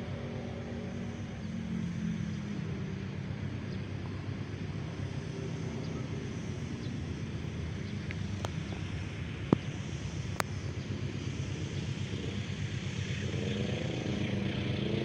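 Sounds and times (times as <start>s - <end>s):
distant diesel locomotive engine hum: 0.0s - 15.0s.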